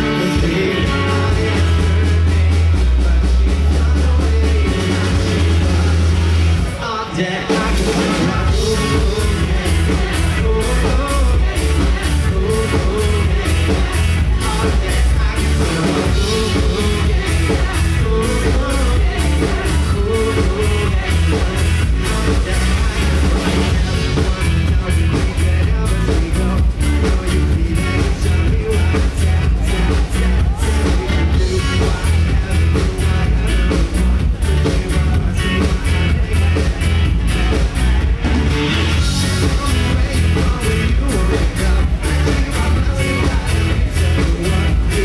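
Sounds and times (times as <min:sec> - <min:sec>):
man singing into a microphone: 0:00.0 - 0:38.1, 0:38.7 - 0:45.0
drum kit beat: 0:00.0 - 0:45.0
live band playing dance music: 0:00.0 - 0:45.0.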